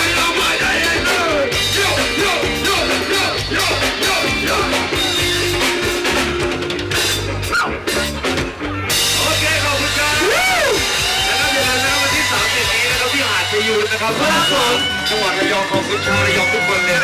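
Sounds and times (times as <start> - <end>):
drum kit: 0.0 - 17.0
horn section playing: 0.0 - 17.0.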